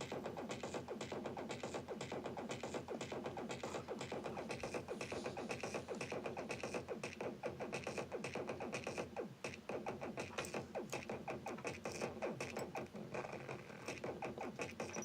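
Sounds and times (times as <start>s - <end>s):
electronic drum pattern: 0.0s - 15.0s.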